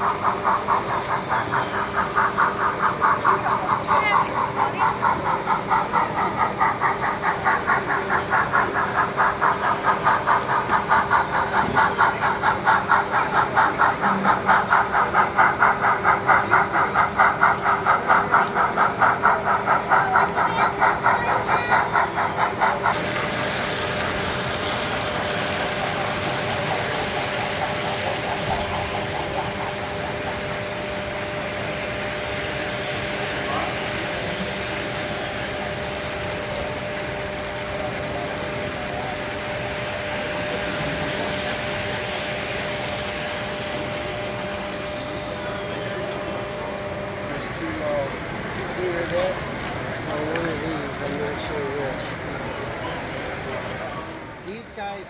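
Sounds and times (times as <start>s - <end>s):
model steam locomotive chuffing: 0.0s - 55.0s.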